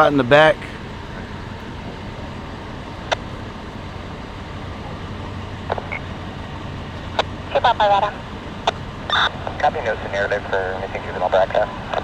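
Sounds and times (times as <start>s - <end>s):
vehicle rumble with hum: 0.0s - 12.0s.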